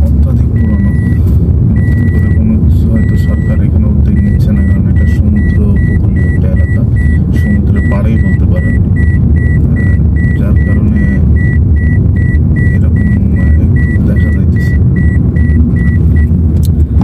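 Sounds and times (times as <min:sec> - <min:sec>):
engine and road rumble: 0:00.0 - 0:17.0
electronic warning beeps: 0:00.3 - 0:16.4.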